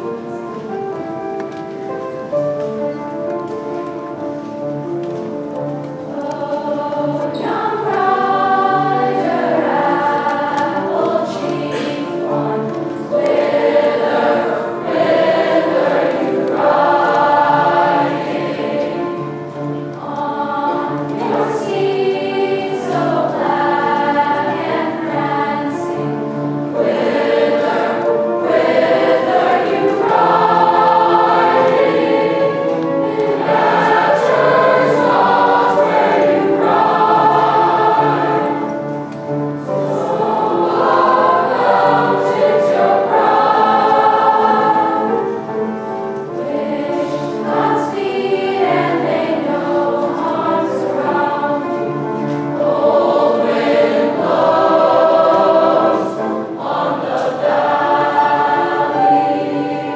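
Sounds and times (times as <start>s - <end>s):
piano accompaniment: 0.0s - 59.9s
teenage choir singing: 0.0s - 59.9s.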